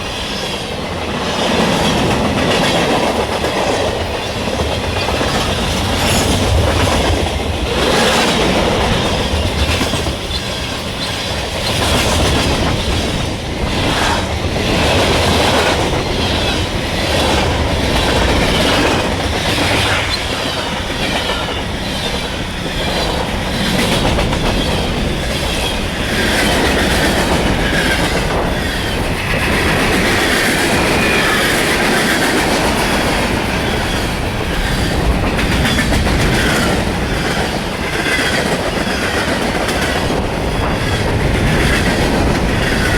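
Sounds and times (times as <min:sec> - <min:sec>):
train wheels clattering over joints: 0:01.2 - 0:42.9.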